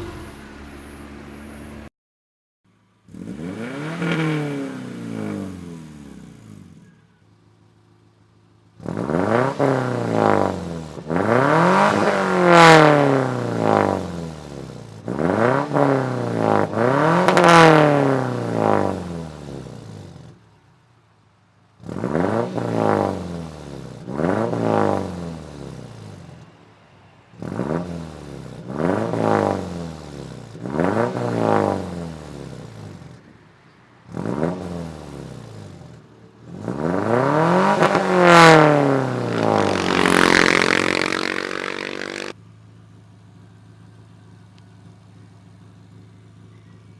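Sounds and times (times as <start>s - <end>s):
car engine revving: 0.0s - 1.9s, 3.0s - 20.5s, 21.8s - 26.6s, 27.3s - 46.9s.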